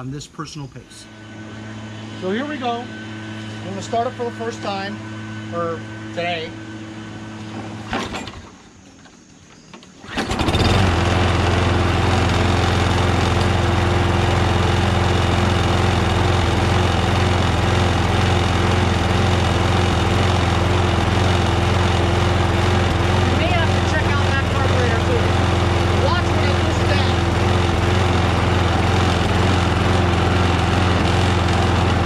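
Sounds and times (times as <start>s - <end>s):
lawn mower engine running: 0.9s - 32.0s.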